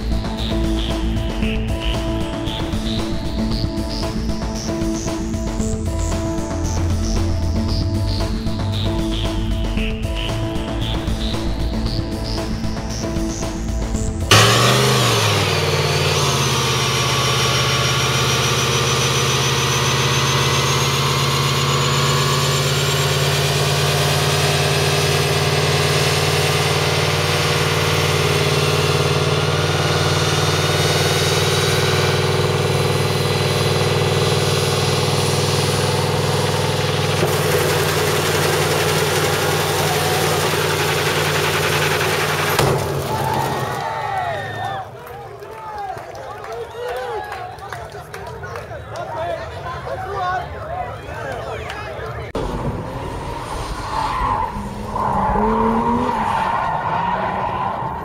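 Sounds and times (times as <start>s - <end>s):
truck engine revving high: 0.0s - 45.0s, 52.1s - 58.0s.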